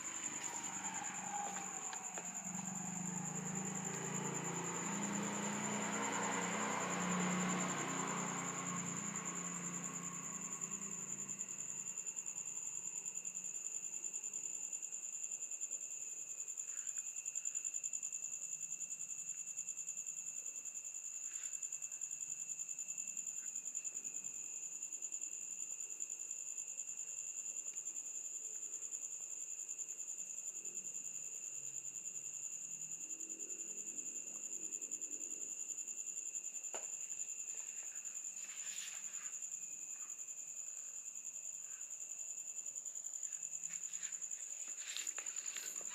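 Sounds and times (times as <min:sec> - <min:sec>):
night insects chirring: 0:00.0 - 0:45.9.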